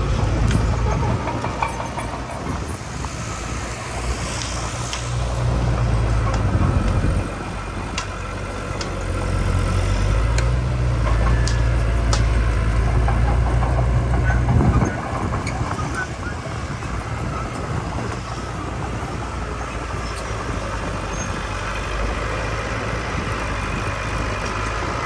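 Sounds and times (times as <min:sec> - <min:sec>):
diesel machinery engine: 0:00.0 - 0:25.0.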